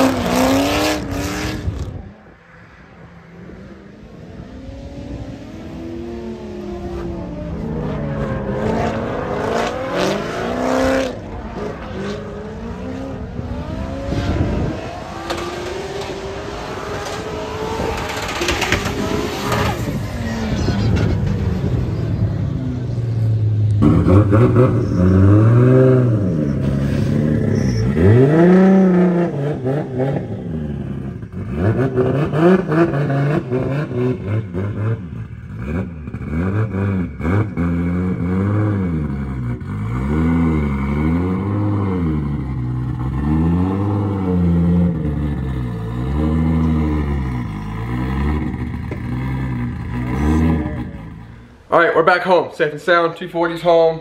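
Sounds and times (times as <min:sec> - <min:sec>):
turbocharged car engine revving: 0:00.0 - 0:02.1, 0:04.6 - 0:51.6.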